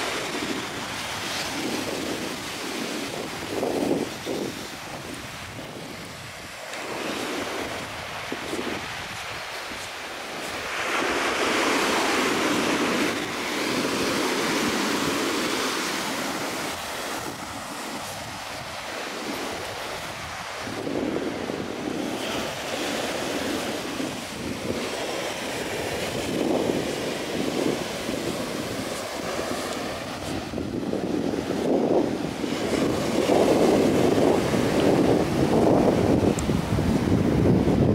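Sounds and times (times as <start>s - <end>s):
ocean surf breaking: 0.0s - 37.9s
wind buffeting microphone: 0.0s - 37.9s.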